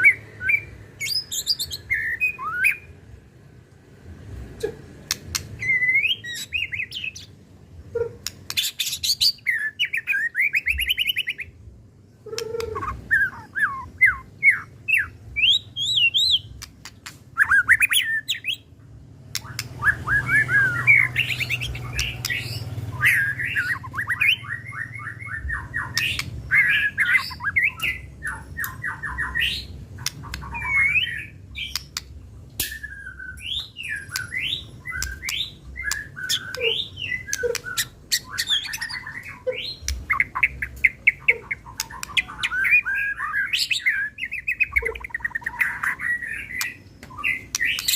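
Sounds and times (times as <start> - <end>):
bird singing varied song: 0.0 - 3.1, 5.0 - 47.9.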